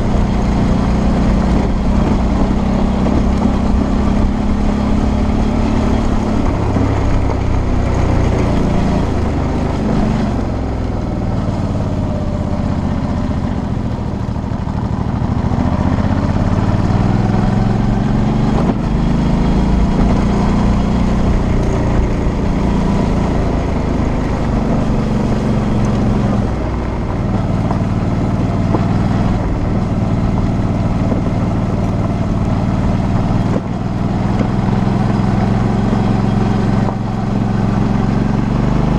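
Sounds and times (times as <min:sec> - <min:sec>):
motorcycle engine revving: 0:00.0 - 0:38.9
wind and tyre noise: 0:00.0 - 0:38.9.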